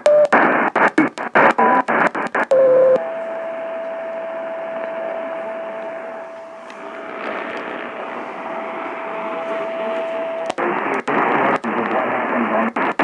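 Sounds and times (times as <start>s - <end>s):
radio static: 0.0s - 13.0s.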